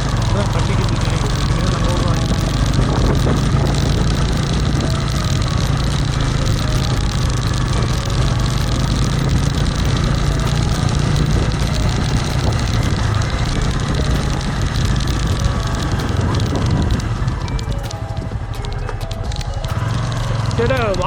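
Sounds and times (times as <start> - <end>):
road noise: 0.0 - 21.0
vehicle engine running: 0.0 - 21.0.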